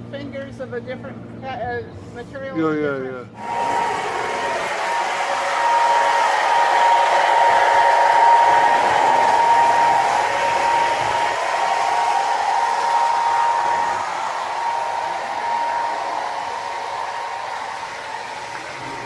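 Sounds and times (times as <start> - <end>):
rush of air: 3.4 - 19.0
small electric motor whirring: 3.4 - 19.0.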